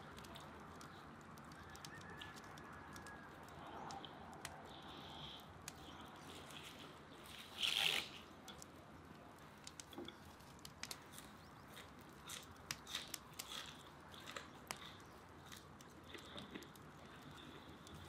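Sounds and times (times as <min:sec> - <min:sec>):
green onion crunching: 0:00.0 - 0:03.2, 0:05.7 - 0:08.7, 0:09.3 - 0:18.0
chewing crunches and clicks: 0:00.0 - 0:18.0.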